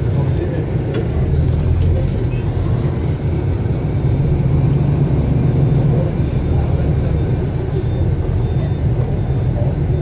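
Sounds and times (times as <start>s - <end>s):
traffic engine rumble: 0.0s - 10.0s.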